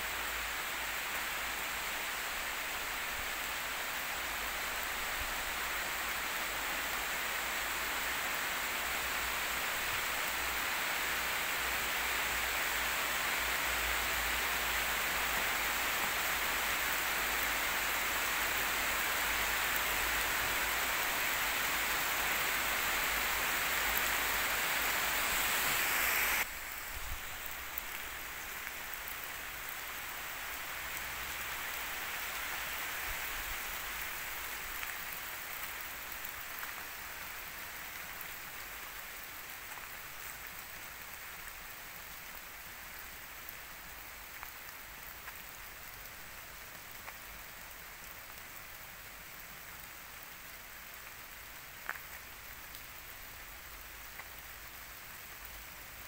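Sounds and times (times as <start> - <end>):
light rain pattering on leaves: 0.0 - 56.0.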